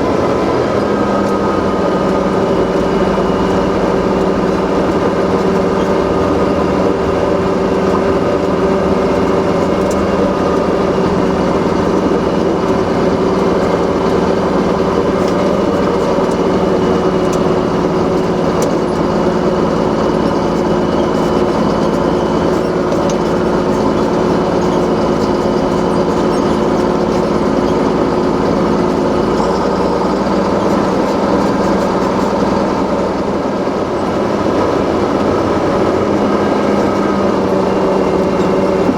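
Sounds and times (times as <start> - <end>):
large engine running steadily: 0.0 - 38.9.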